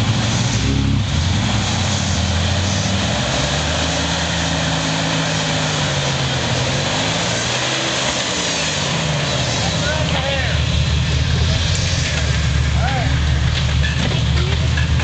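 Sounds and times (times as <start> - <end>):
car engine under load: 0.0 - 15.0.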